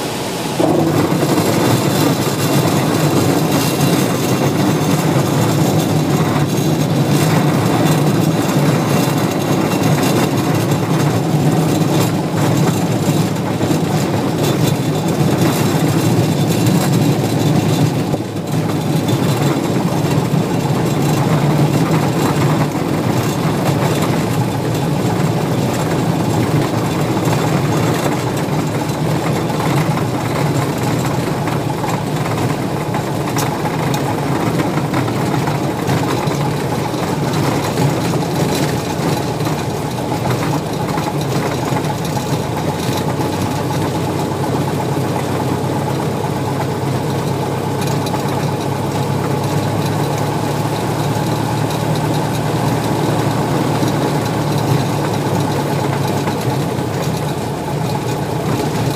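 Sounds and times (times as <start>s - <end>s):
small plane engine droning: 0.0s - 58.9s.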